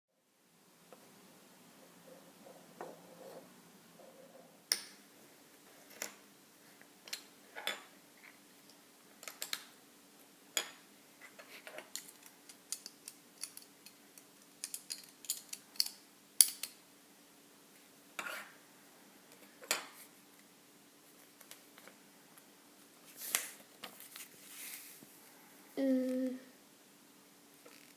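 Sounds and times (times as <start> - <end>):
faint steady hum: 0.1 - 27.9.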